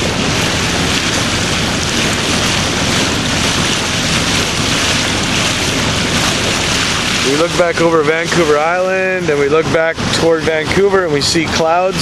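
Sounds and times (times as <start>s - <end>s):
water swishing along hull: 0.0s - 12.0s.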